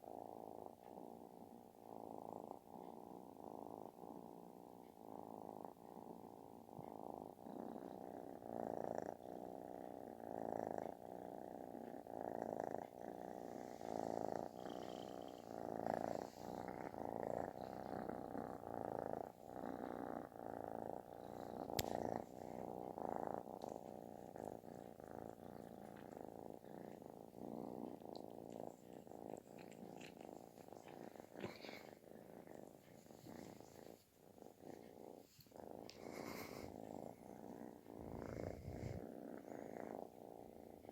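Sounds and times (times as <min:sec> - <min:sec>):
kitten purring loudly: 0:00.0 - 0:40.9.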